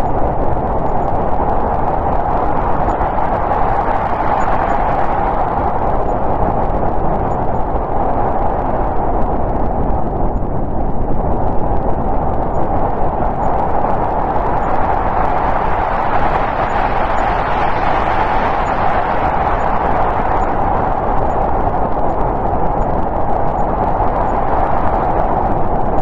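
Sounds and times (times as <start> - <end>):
snowstorm wind blowing: 0.0 - 26.0.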